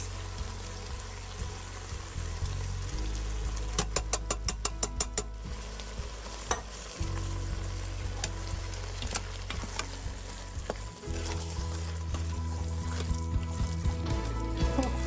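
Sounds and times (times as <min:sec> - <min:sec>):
food sizzling in a pot: 0:00.0 - 0:15.0
low background music: 0:00.0 - 0:15.0.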